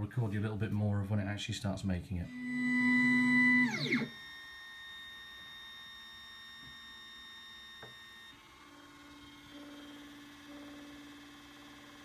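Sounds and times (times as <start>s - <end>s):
printer fans whining: 2.3s - 12.0s
stepper motor whine: 2.3s - 12.0s.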